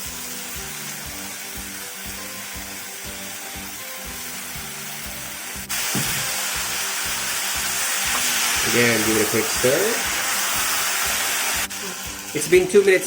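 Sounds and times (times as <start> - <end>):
background music with steady beat: 0.0 - 13.0
vegetables sizzling in hot oil: 0.0 - 13.0.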